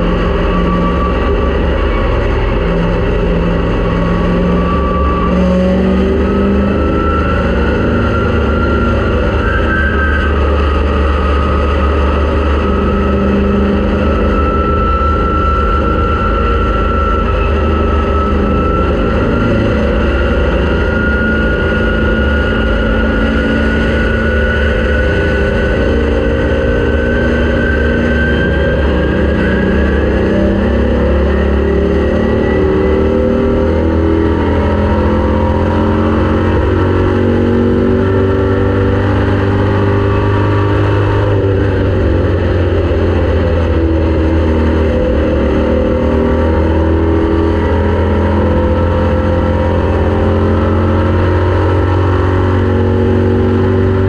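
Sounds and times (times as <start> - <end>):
race car engine running: 0.0 - 54.0.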